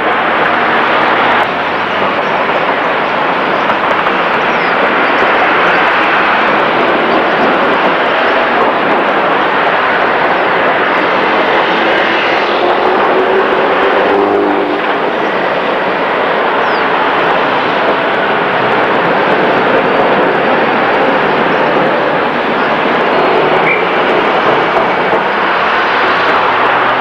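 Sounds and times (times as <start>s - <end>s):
city street traffic: 0.0s - 27.0s.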